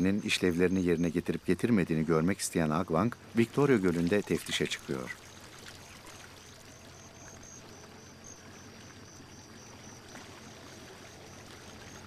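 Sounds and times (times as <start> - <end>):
water lapping around a boat: 0.0 - 12.0.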